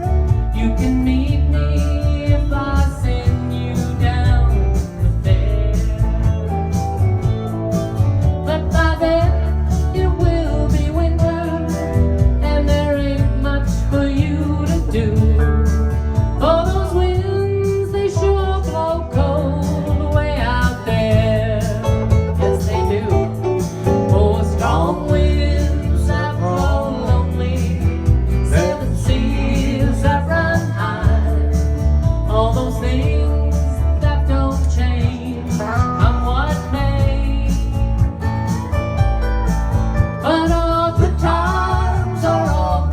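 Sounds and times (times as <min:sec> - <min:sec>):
person singing folk song: 0:00.0 - 0:38.8, 0:40.0 - 0:42.9
guitar accompaniment: 0:00.0 - 0:42.9
steady bass line: 0:00.0 - 0:42.9.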